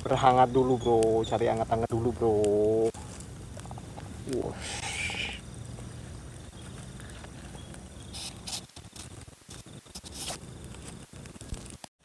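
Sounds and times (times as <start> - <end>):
bonfire crackling: 0.0 - 12.0
sharp pops from fire: 0.0 - 12.0.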